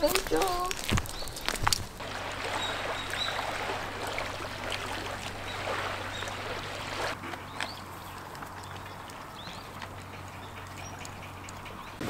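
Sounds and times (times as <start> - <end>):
water lapping: 0.0 - 12.0.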